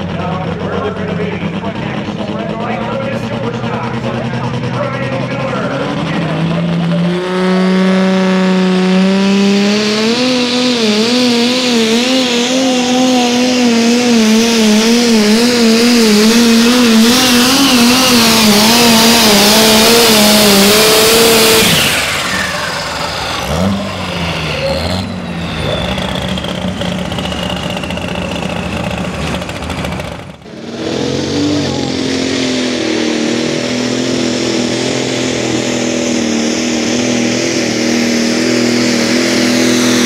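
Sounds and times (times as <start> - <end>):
tractor engine at full throttle: 0.0 - 40.0.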